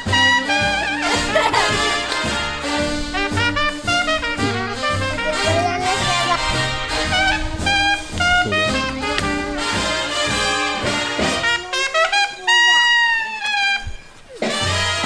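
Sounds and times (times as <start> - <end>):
jazz band playing: 0.0 - 15.0
trumpet melody: 0.0 - 15.0.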